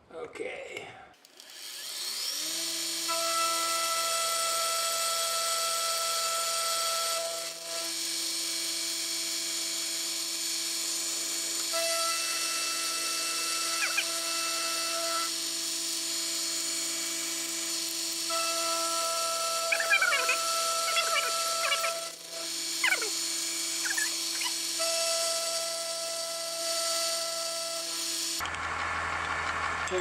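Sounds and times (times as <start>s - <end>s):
milling machine motor whine: 1.4s - 29.9s.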